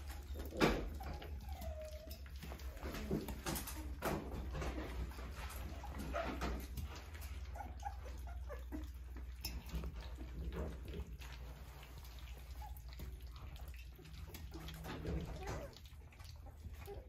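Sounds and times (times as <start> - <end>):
puppies lapping wet food: 0.0 - 17.0
puppies squeaking: 0.0 - 17.0.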